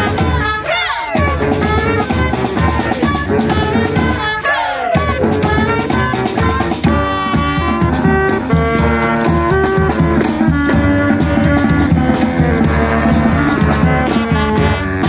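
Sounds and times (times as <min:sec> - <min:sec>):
steady drum beat: 0:00.0 - 0:14.3
brass horns playing: 0:00.0 - 0:15.0.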